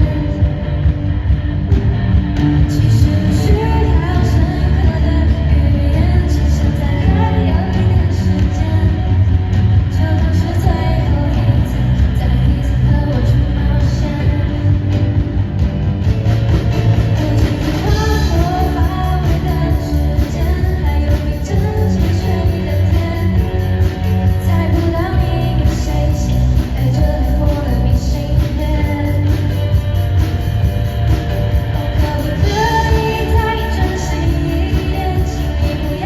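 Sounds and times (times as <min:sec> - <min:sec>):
band playing pop-rock song: 0:00.0 - 0:36.0
lead singer singing: 0:02.6 - 0:15.3, 0:17.0 - 0:29.8, 0:31.8 - 0:36.0.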